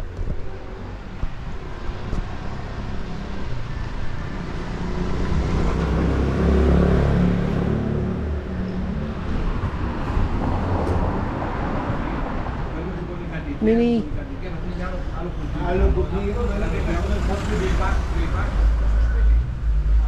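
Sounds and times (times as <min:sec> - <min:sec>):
motor vehicle passing: 0:00.6 - 0:13.0, 0:15.3 - 0:20.0.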